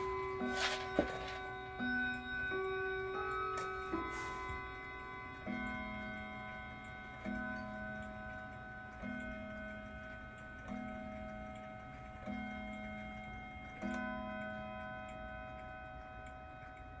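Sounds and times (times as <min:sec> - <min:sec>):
clock gong striking: 0:00.0 - 0:15.7
clock ticking: 0:00.0 - 0:17.0.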